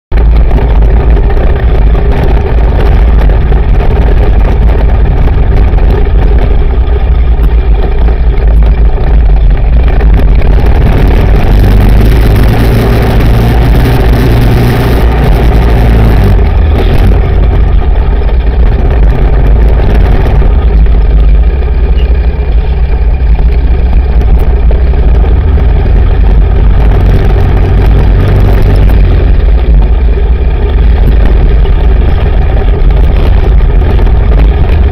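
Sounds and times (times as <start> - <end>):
wind noise on microphone: 0.1 - 34.9
quad bike engine revving: 0.2 - 34.9.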